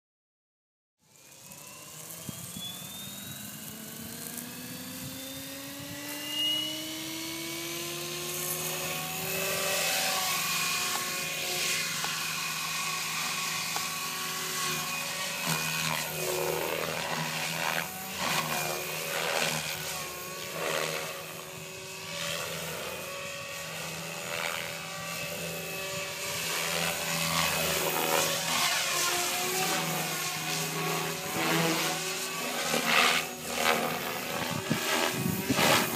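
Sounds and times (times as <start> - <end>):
helicopter rotor surging: 1.0 - 35.9
rc helicopter motor whine: 1.0 - 35.9.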